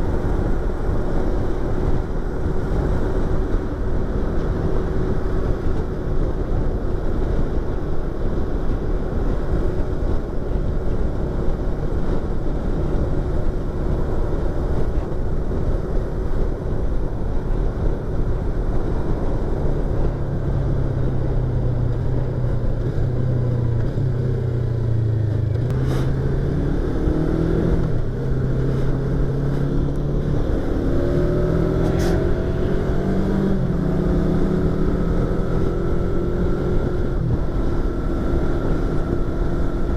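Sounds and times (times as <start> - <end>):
motorcycle engine and exhaust: 0.0 - 39.9
wind noise: 0.0 - 39.9.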